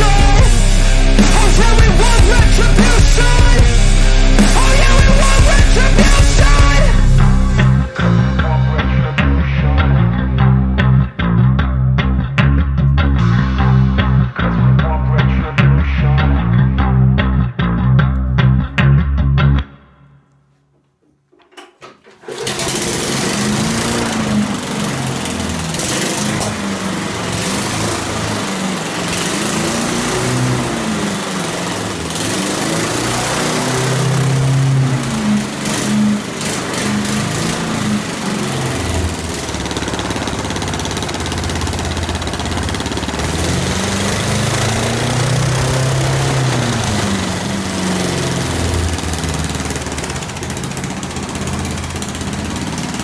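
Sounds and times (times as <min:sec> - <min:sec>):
lawn mower engine revving: 0:00.0 - 0:11.3, 0:21.6 - 0:53.0.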